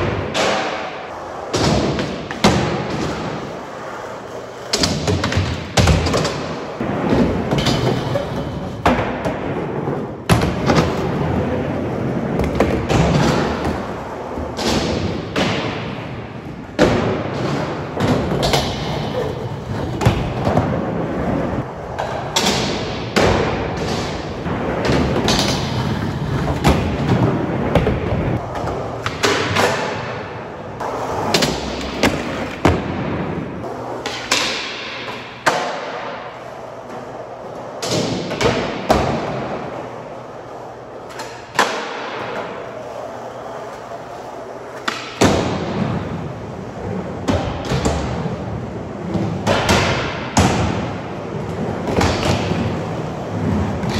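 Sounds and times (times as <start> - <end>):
skateboard wheels rolling on concrete: 0.0 - 53.9.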